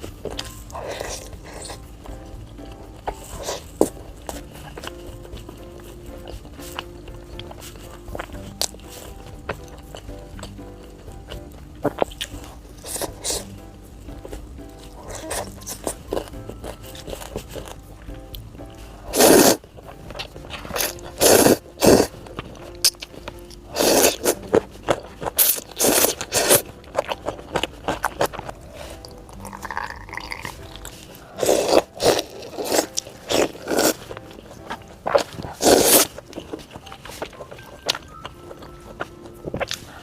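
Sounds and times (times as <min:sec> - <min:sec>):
crunchy food crunching: 0:00.0 - 0:40.0
quiet chewing: 0:00.0 - 0:40.0.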